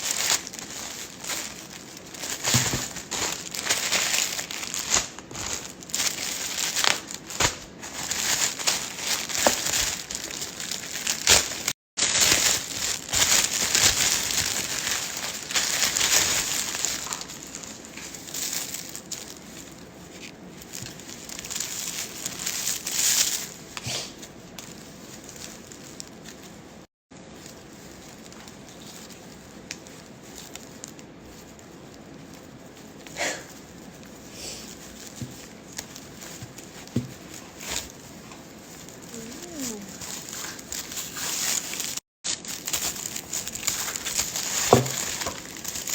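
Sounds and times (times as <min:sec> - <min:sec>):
packaging crinkling and rustling: 0:00.0 - 0:45.9.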